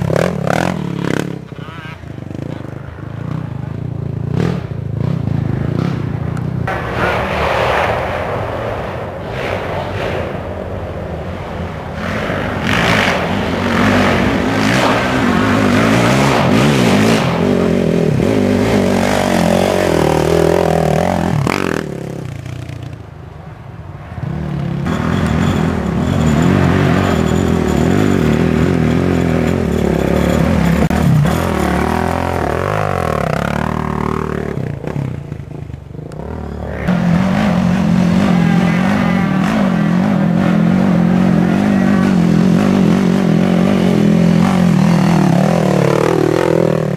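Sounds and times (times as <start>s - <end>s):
quad engines revving: 0.0s - 8.0s, 11.2s - 23.0s, 24.2s - 46.9s.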